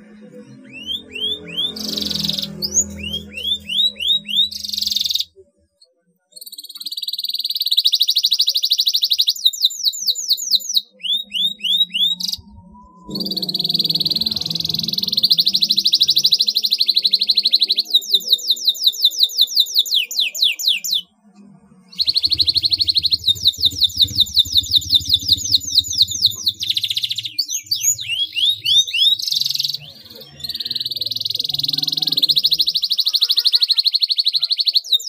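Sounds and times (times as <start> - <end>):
canary singing trills: 0.0 - 5.4, 6.3 - 35.0.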